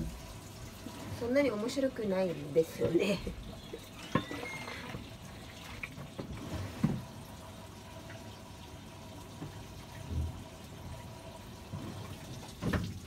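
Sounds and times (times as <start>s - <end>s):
washing machine filling with water: 0.0s - 13.0s.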